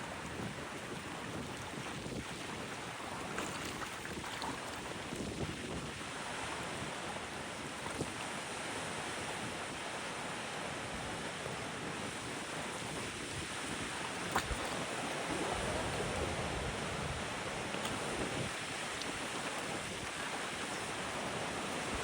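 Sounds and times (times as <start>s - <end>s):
sea waves washing on shore: 0.0s - 22.0s
wind blowing over microphone: 0.0s - 22.0s.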